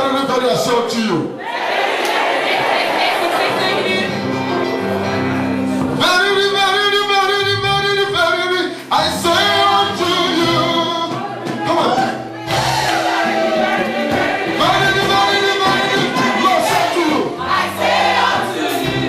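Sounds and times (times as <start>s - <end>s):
voices singing gospel: 1.4s - 19.0s.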